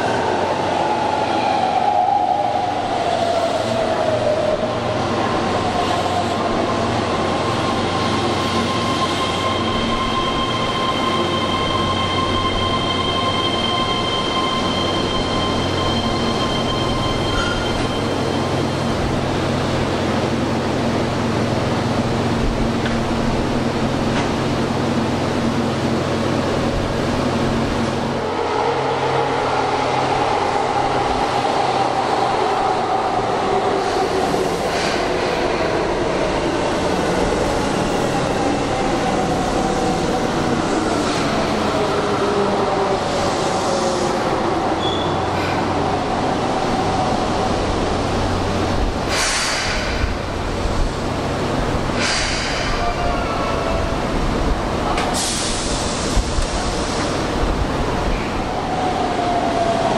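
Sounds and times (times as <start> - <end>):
train running and rail noise: 0.0 - 59.9.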